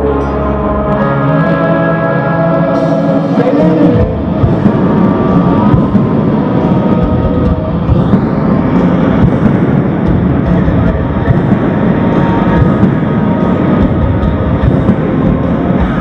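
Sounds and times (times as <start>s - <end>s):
distorted electric guitars: 0.0s - 16.0s
rock band playing loudly: 0.0s - 16.0s
drums crashing: 2.6s - 16.0s.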